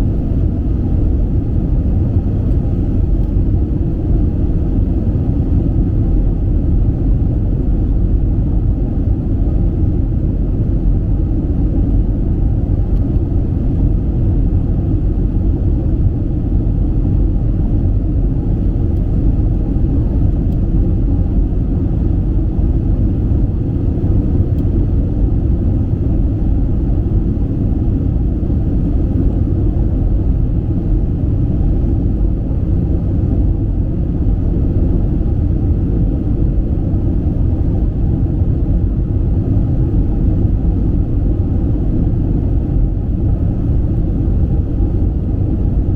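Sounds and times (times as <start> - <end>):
airplane cabin engine rumble: 0.0 - 45.9
faint steady hum: 0.0 - 45.9.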